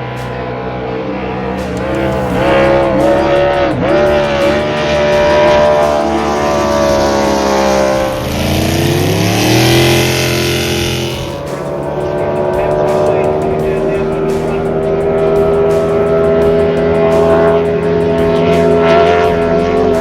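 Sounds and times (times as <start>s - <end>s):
lower engine note rising: 0.0s - 20.0s
race boat engines at high revs: 0.0s - 20.0s.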